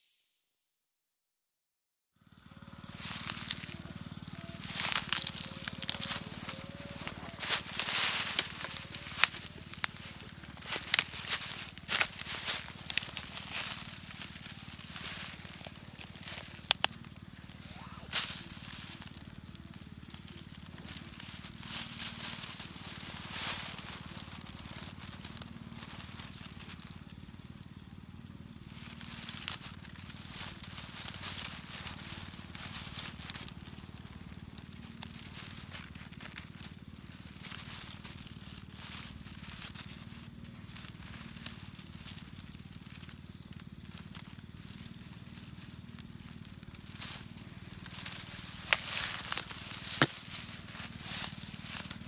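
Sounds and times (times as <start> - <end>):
dry leaf litter crunching: 2.2 - 52.0
steady low hum: 2.5 - 52.0.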